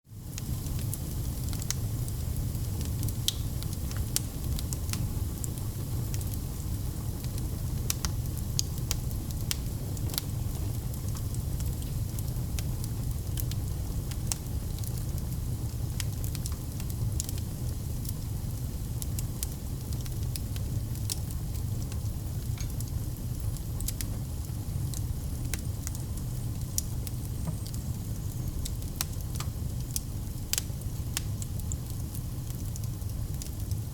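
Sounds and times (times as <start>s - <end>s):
low rumble and hiss of flames: 0.1s - 33.9s
fire crackling and popping: 0.2s - 33.9s.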